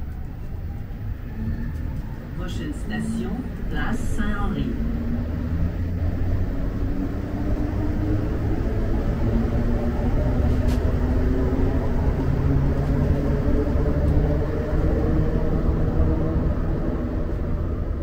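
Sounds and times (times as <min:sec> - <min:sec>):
metro train low rumble: 0:00.0 - 0:18.0.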